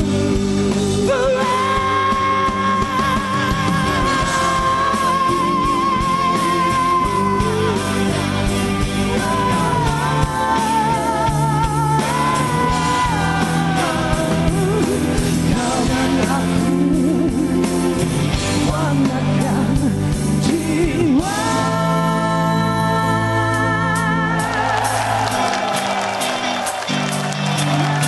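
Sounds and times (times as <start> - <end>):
lead vocal singing: 0.0 - 25.7
rock band playing: 0.0 - 28.0.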